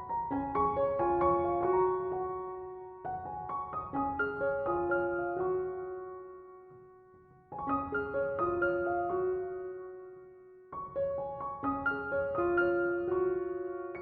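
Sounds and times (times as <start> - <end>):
gentle solo piano: 0.0 - 14.0.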